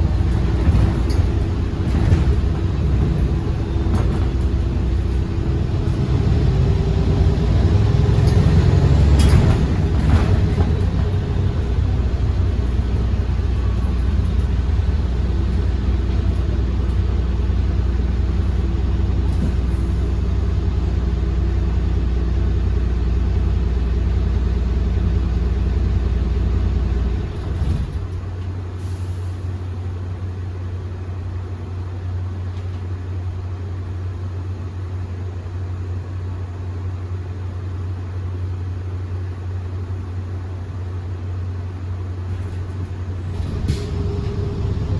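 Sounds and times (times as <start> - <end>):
bus engine droning: 0.0 - 44.9.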